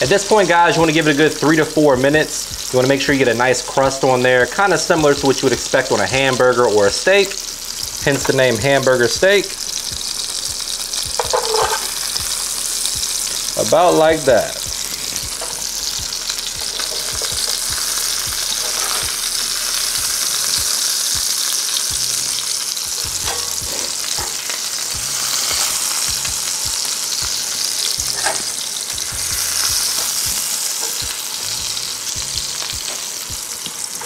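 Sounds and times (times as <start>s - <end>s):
meat sizzling in a skillet: 0.0s - 34.0s.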